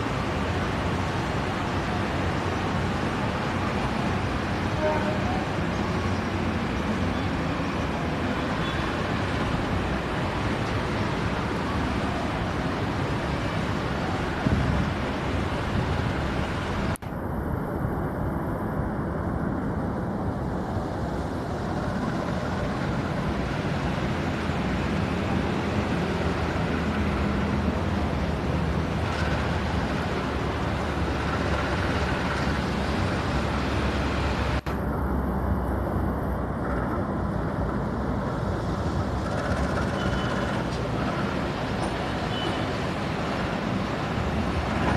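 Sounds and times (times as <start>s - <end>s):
rumbling vehicle noise: 0.0s - 44.9s.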